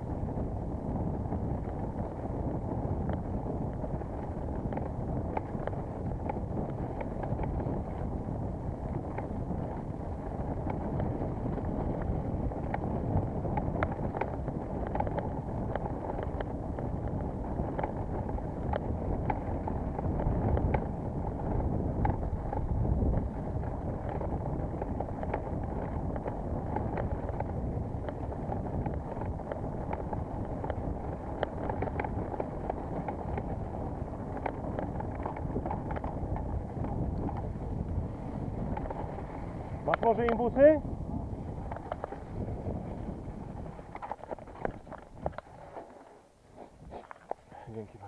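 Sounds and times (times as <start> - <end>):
bike clicks and rattles: 0.0 - 48.0
wind rushing over microphone: 0.0 - 48.0.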